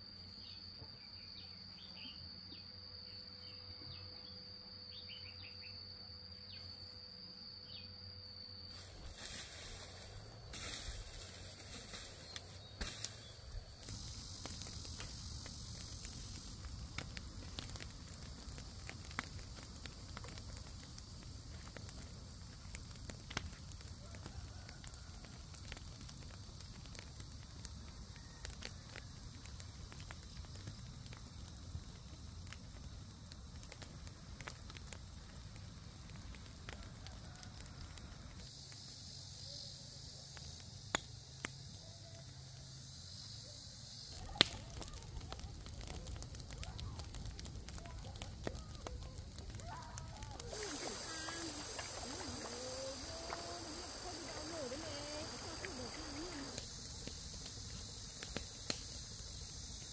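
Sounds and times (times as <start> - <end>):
burning grass crackling: 8.6 - 59.9
sharp pops of fire: 9.0 - 59.9.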